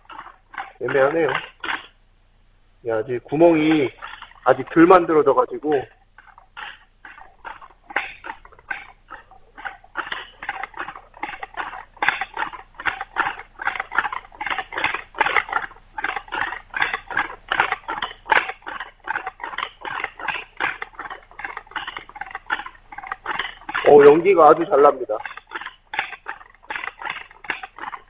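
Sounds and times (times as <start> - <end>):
wood-on-wood friction squeaking: 0.0 - 2.0, 2.9 - 28.0.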